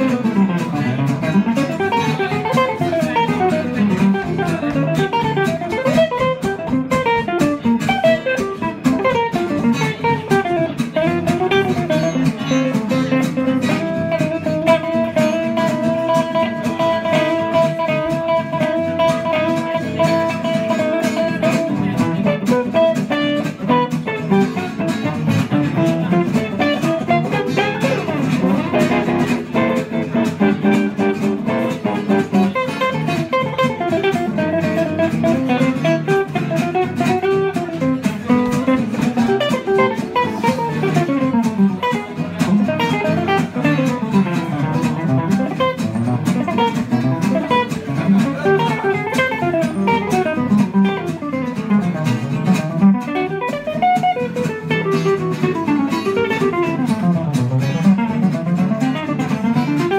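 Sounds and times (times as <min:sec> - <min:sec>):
jazz guitar solo line: 0:00.0 - 0:59.9
strummed guitar chords: 0:00.0 - 0:59.9.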